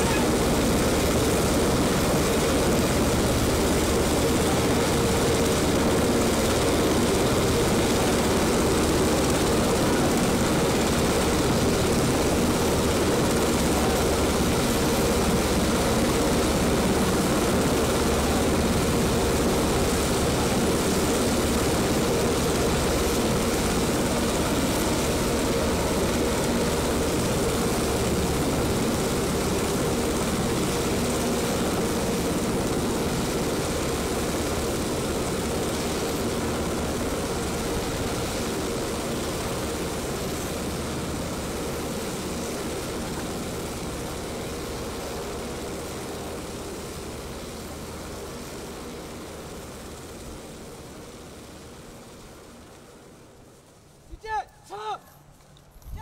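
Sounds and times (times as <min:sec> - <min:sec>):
helicopter rotor and turbine: 0:00.0 - 0:54.4, 0:55.2 - 0:56.0.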